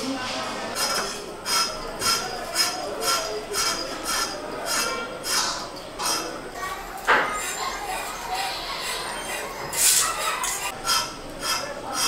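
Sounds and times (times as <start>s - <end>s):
knife scraping gourd skin: 0.7s - 6.3s, 7.2s - 12.0s.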